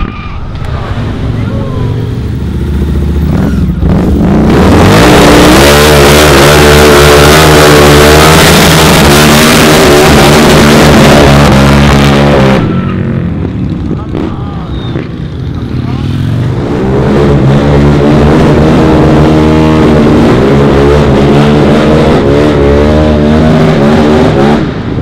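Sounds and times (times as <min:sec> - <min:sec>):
motorcycle engine revving high: 0:00.0 - 0:25.0.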